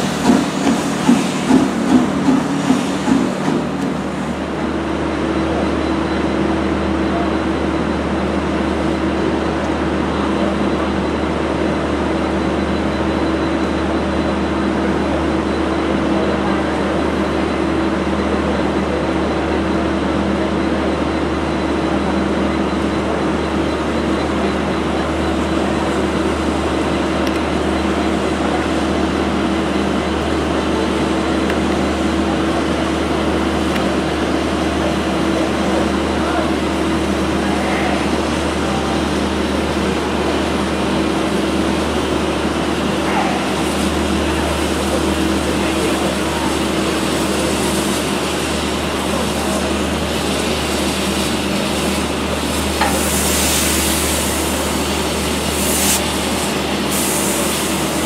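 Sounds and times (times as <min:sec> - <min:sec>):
locomotive mechanical drone: 0:00.0 - 0:58.0
steam locomotive exhaust beats: 0:00.0 - 0:58.0.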